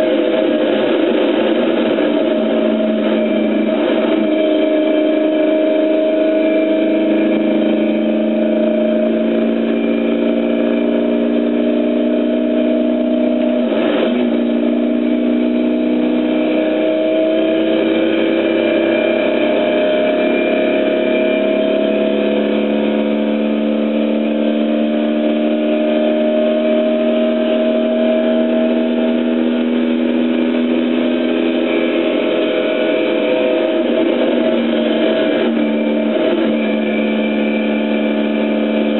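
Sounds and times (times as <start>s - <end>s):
car engine pulling hard: 0.0s - 38.9s.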